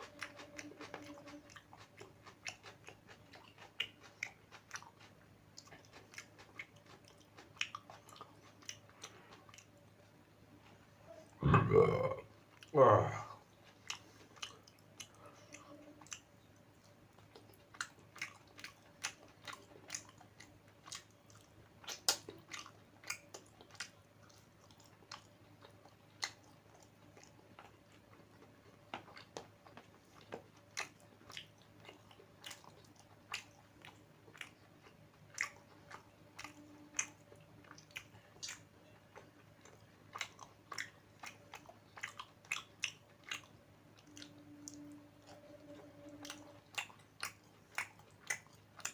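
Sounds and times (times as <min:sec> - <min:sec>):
person chewing with mouth smacks: 0:00.0 - 0:48.9.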